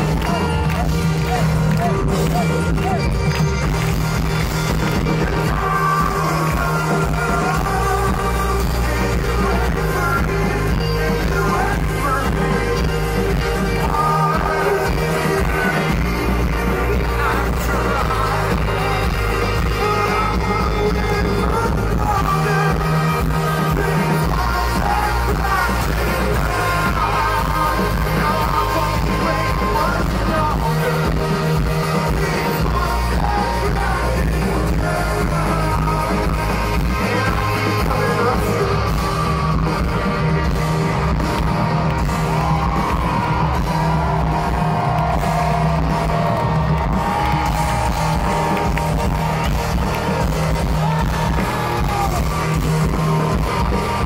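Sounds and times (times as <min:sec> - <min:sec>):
live rock band with singer: 0:00.0 - 0:54.0.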